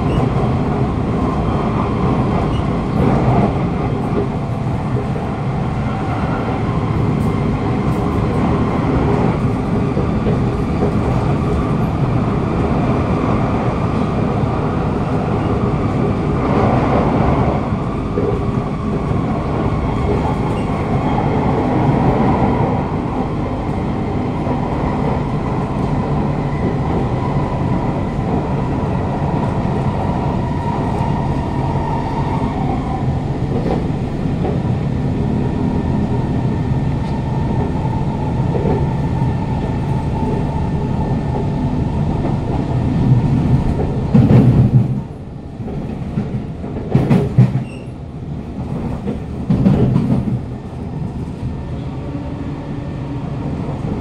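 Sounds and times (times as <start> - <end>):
train wheel and track rumble: 0.0 - 54.0.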